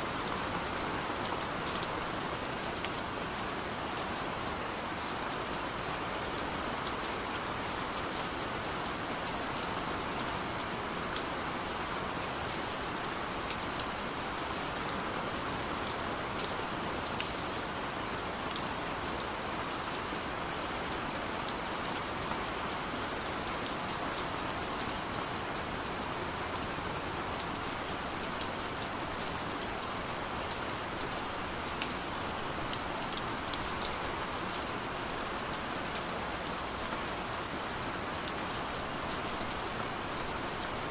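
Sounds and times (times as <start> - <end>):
gentle rain hiss: 0.0 - 40.9.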